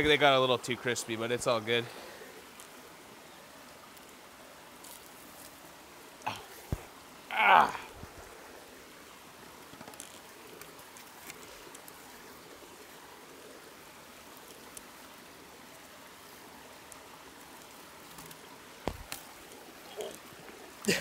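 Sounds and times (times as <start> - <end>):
stream water running: 0.0 - 21.0.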